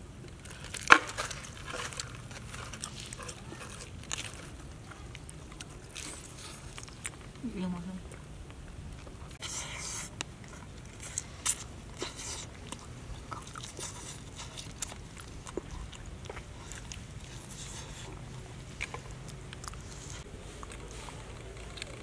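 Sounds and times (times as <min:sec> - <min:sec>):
chewing crunchy chicken: 0:00.3 - 0:07.4, 0:08.1 - 0:22.0.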